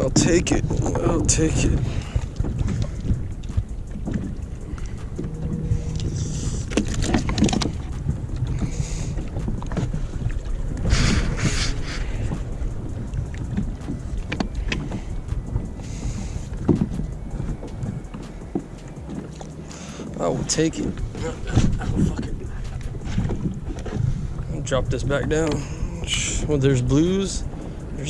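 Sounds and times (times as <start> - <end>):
water lapping against a kayak: 0.0 - 28.0
wind rumble on microphone: 0.0 - 28.0.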